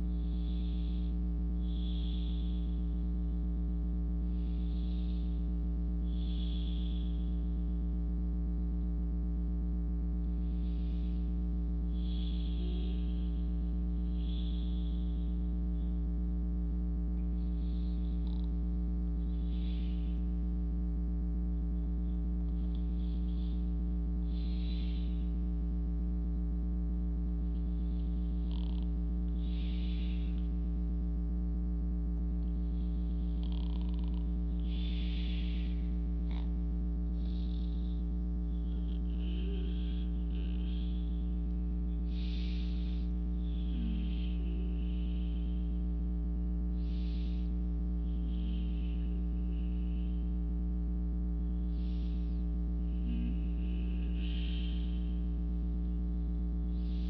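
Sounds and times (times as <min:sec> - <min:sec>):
soft breaths: 0:00.0 - 0:08.1, 0:09.8 - 0:20.8, 0:21.4 - 0:57.0
low electrical hum: 0:00.0 - 0:57.0.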